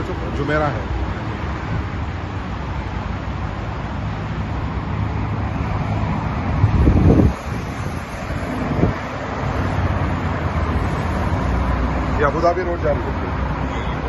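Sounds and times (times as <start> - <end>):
highway traffic rushing past: 0.0 - 14.0.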